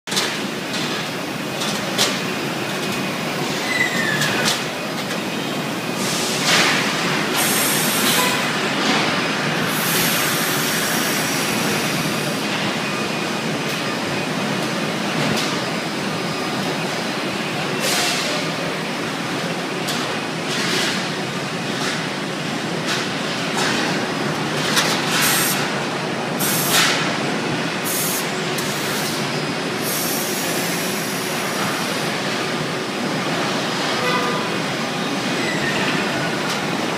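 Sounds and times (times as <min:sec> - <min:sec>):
steady machinery noise: 0:00.1 - 0:36.9.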